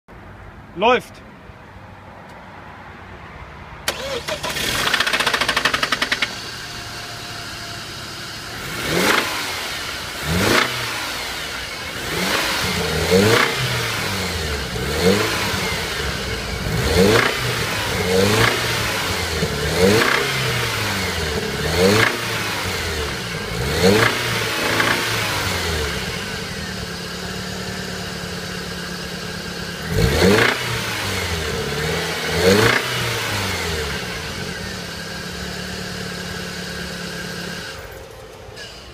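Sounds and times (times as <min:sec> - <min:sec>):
car engine revving and idling: 0:03.8 - 0:38.9.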